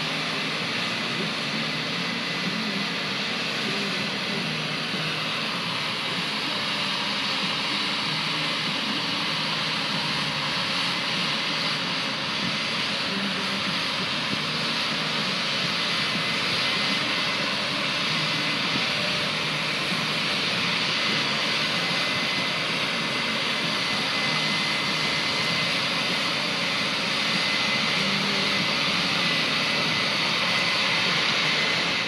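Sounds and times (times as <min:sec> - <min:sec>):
faint high whine: 0:00.0 - 0:32.0
machinery roar with whooshing hiss: 0:00.0 - 0:32.0.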